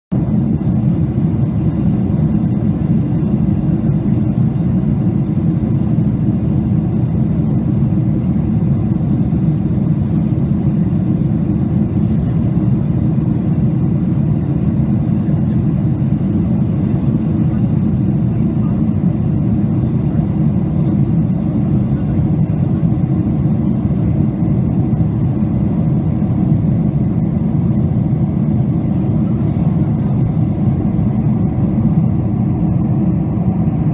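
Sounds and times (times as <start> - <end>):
airliner cabin drone: 0.1 - 33.9.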